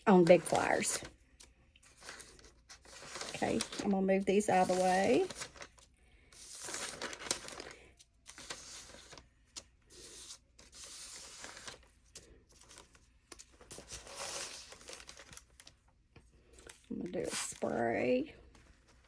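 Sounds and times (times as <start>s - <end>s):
papery material crinkling: 0.0s - 19.0s.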